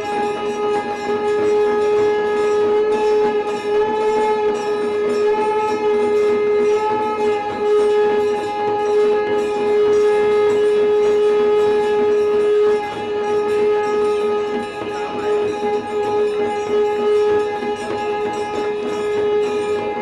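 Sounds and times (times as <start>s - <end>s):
conch shell blown: 0.0s - 20.0s.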